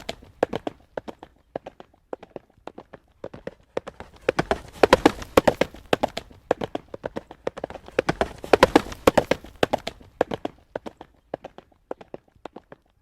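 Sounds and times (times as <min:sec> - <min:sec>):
horse hooves clip-clopping on road: 0:00.0 - 0:13.0.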